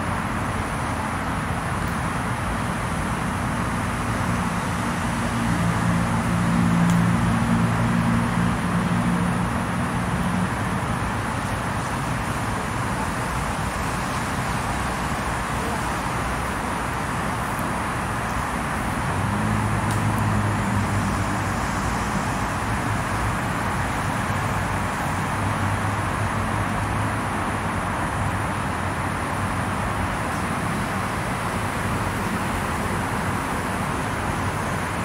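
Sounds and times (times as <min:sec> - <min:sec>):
passing vehicle engines humming: 0:00.0 - 0:35.0
road traffic hiss: 0:00.0 - 0:35.0.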